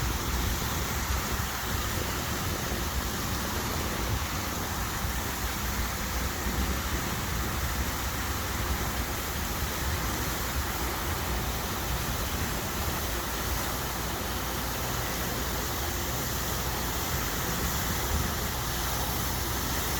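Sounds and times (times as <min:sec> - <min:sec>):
water fountain splashing: 0:00.0 - 0:19.9.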